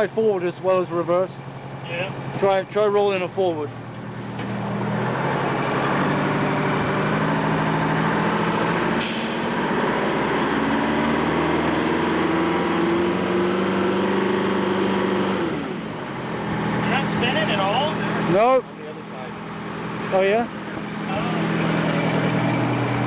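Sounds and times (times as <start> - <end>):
truck engine under load: 0.0 - 23.0.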